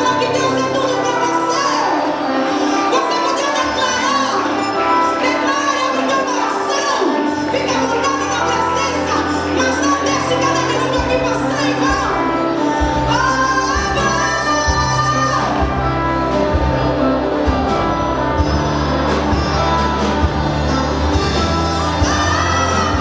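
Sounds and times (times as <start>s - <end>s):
gospel band playing: 0.0s - 23.0s.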